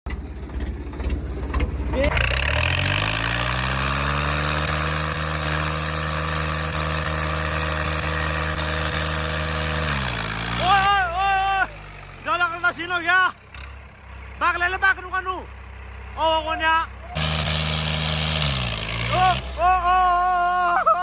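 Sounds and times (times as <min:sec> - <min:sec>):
tractor diesel engine revving: 0:00.1 - 0:20.8.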